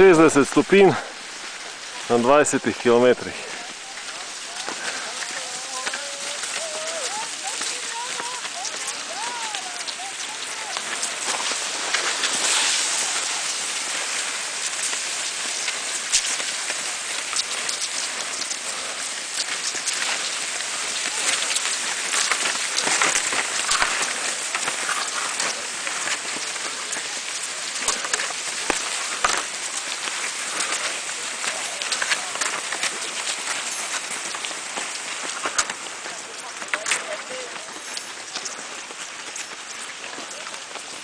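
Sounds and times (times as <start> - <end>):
skis gliding on snow: 0.0 - 41.0.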